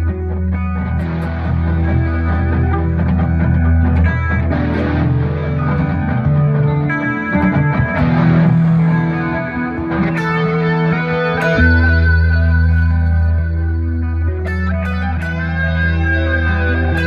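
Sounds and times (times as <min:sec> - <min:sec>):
electric guitar melody notes: 0:00.0 - 0:17.0.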